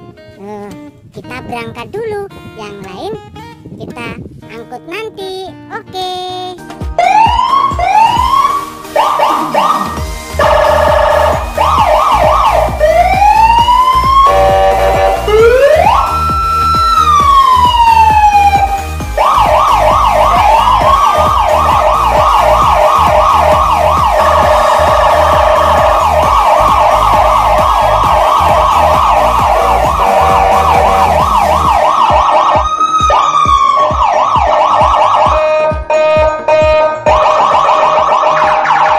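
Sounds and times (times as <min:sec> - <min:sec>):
electronic siren wailing and yelping: 0:07.0 - 0:38.9.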